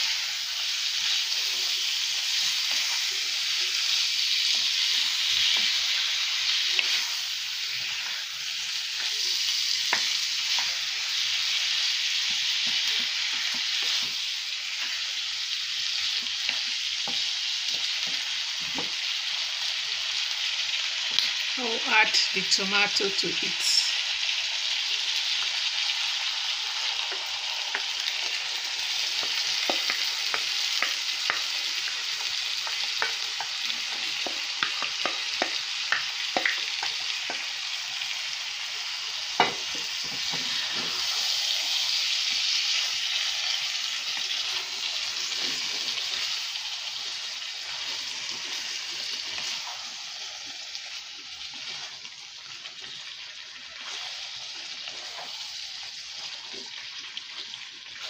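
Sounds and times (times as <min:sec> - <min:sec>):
sauce sizzling in a frying pan: 0:00.0 - 0:58.0.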